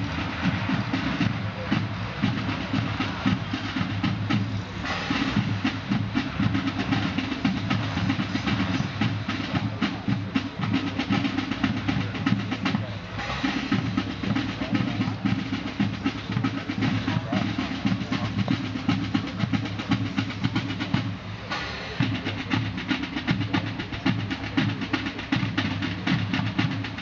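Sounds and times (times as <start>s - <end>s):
drums beating: 0.0s - 27.0s.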